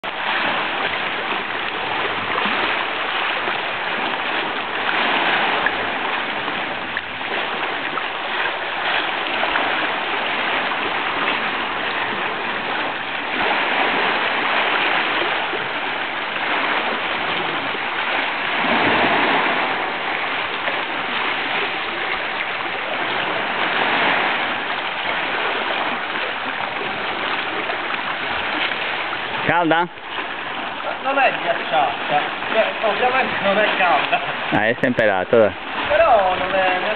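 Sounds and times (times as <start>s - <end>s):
sea washing on pebble shore: 0.0s - 36.9s.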